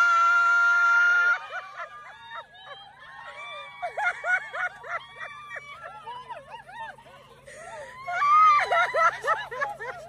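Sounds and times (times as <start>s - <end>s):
women squealing excitedly: 0.0s - 10.0s.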